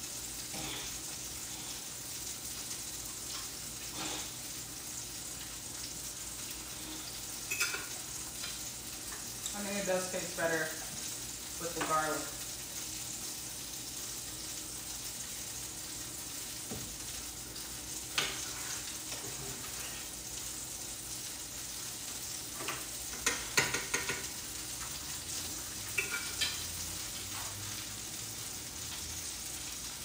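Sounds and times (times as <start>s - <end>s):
chicken sizzling in a pan: 0.0s - 30.0s.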